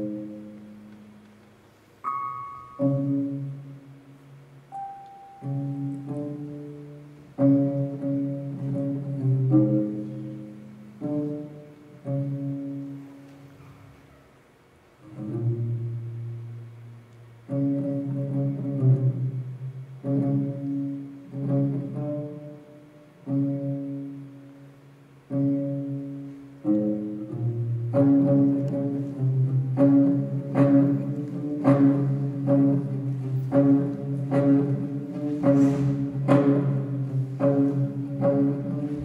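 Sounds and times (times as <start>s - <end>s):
low-pitched string instrument: 0.0s - 14.2s, 14.9s - 39.0s.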